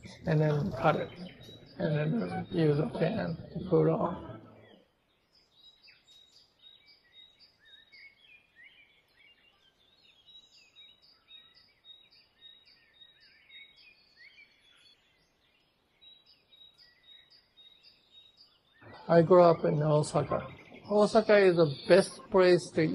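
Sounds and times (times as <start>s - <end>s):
faint bird chirping: 0.0s - 22.9s.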